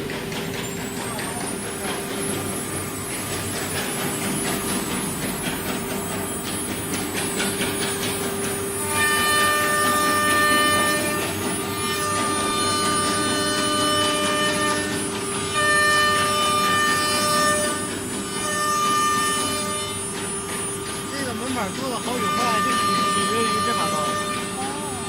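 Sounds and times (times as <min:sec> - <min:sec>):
cnc router machine whine: 0:00.0 - 0:25.0
louder whining tone: 0:00.9 - 0:25.0.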